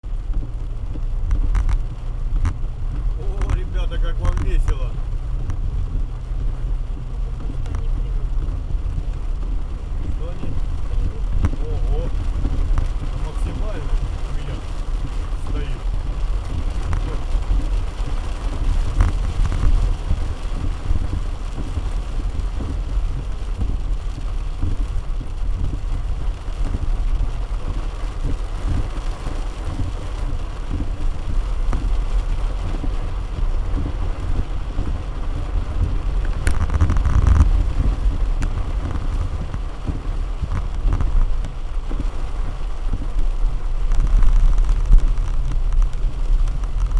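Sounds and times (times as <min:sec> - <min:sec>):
rain hissing: 0:00.0 - 0:46.9
vehicle rumbling: 0:00.0 - 0:46.9
wind: 0:00.0 - 0:46.9.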